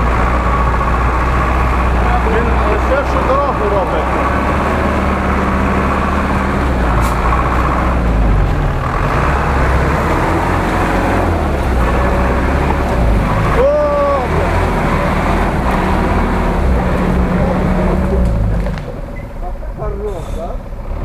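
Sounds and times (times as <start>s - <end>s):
truck engine running: 0.0s - 21.0s
tyres driving through mud: 0.0s - 21.0s.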